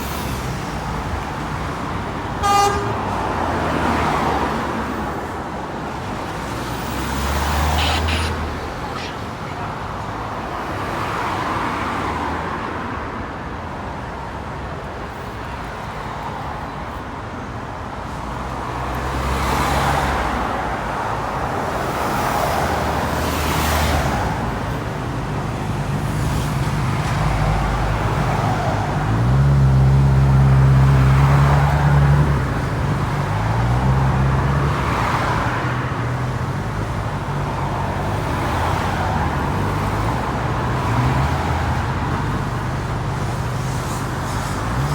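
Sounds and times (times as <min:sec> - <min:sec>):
cars passing: 0:00.0 - 0:44.9.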